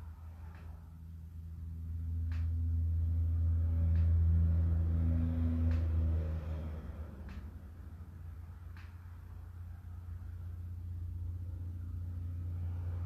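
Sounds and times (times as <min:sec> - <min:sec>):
low humming drone: 0:00.0 - 0:13.0.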